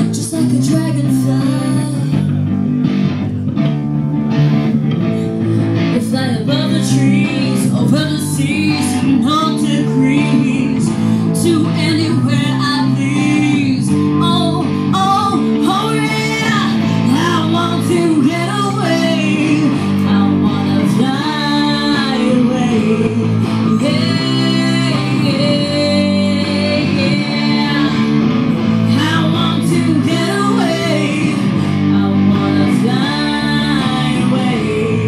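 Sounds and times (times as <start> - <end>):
woman singing into microphone: 0.0 - 2.6, 5.2 - 35.0
bass guitar: 0.0 - 35.0
electric guitar: 0.0 - 35.0.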